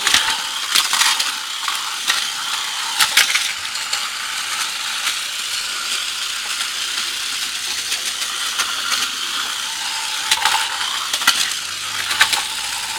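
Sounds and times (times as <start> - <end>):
toy car electric motors whirring: 0.0 - 12.9
toy cars clacking together: 0.0 - 12.9.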